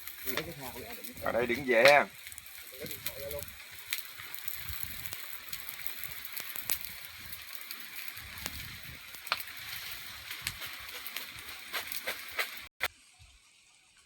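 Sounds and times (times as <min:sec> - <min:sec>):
fire pops: 0:00.0 - 0:12.8
campfire crackling hiss: 0:00.0 - 0:13.5.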